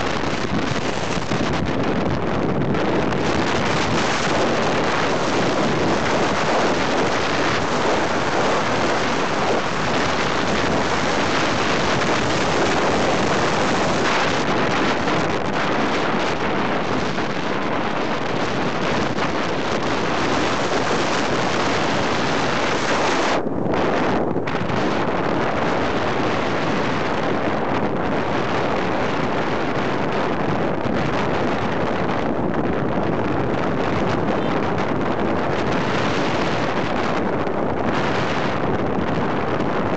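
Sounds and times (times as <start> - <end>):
motorcycle road and engine noise: 0.0 - 39.9
wind rushing over microphone: 0.0 - 39.9.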